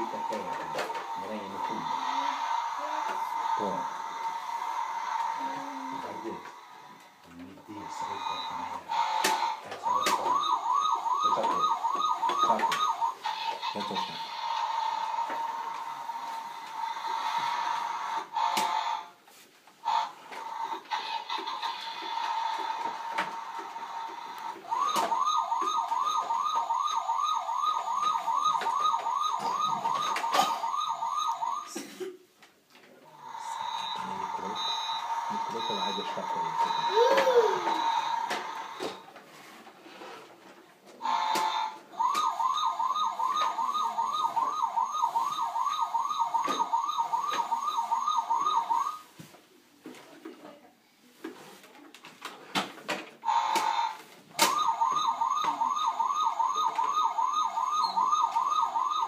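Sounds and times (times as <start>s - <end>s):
toy siren wailing: 0.0s - 6.6s, 7.8s - 19.1s, 19.8s - 31.8s, 33.2s - 39.0s, 41.0s - 49.0s, 53.2s - 59.0s.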